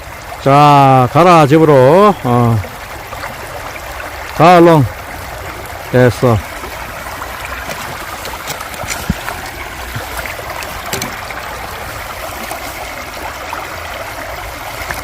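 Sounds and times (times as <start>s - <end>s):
stream babbling over stones: 0.0s - 15.0s.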